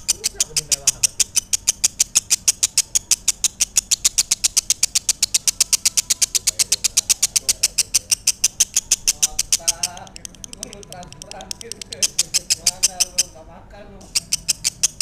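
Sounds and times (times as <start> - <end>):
lovebird shrill chirping: 0.0 - 13.4, 14.0 - 15.0.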